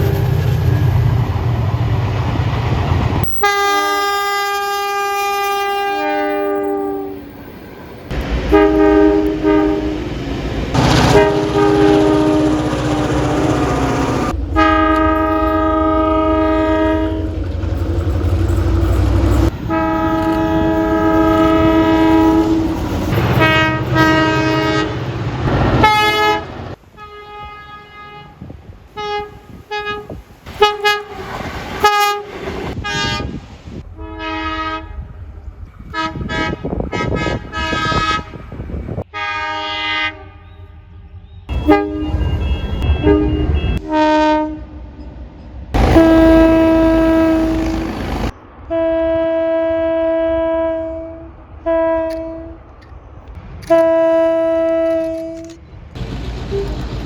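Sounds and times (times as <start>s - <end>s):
low train rumble: 0.0s - 57.0s
train air horns: 3.2s - 7.4s, 8.2s - 17.4s, 19.4s - 35.2s, 35.9s - 44.9s, 45.8s - 52.7s, 53.6s - 55.6s.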